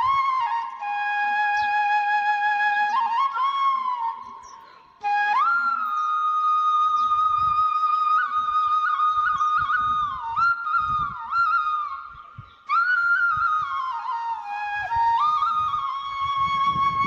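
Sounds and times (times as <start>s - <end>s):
slow flute melody: 0.0s - 17.0s.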